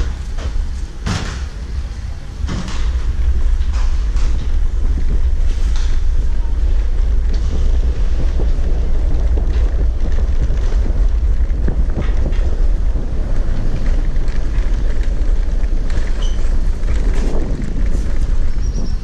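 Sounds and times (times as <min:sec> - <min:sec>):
bike rattling over cobblestones: 0:00.0 - 0:19.0
wind buffeting microphone: 0:00.0 - 0:19.0.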